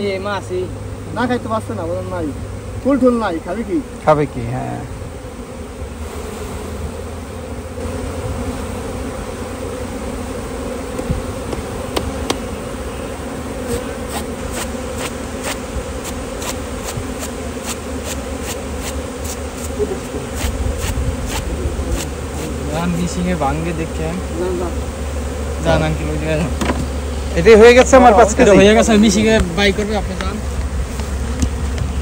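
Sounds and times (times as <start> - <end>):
honey bees buzzing: 0.0 - 32.0.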